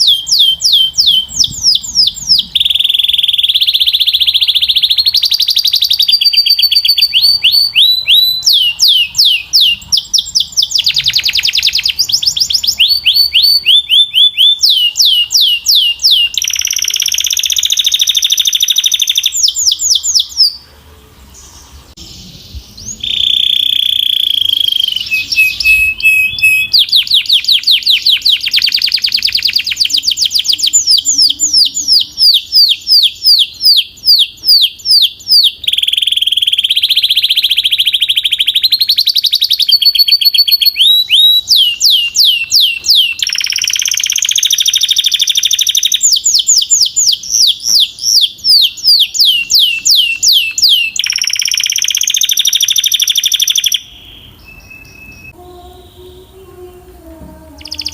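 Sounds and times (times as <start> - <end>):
canary singing: 0.0 - 57.9.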